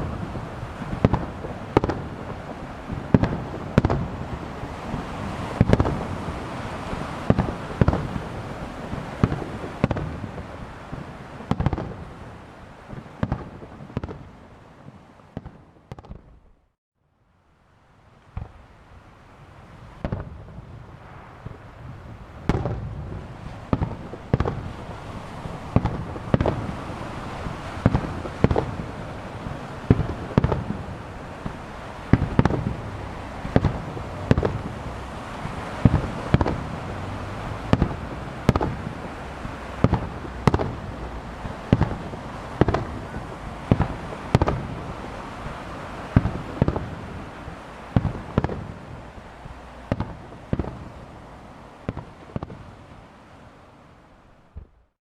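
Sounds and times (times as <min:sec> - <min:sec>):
continuous rumble: 0:00.0 - 0:14.3, 0:18.4 - 0:52.8
fireworks booming: 0:00.0 - 0:16.4, 0:19.4 - 0:51.0.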